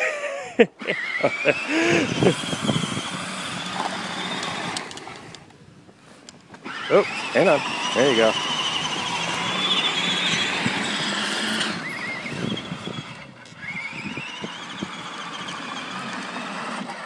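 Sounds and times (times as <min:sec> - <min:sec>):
electric motor whining: 0:00.8 - 0:05.5, 0:06.5 - 0:17.0.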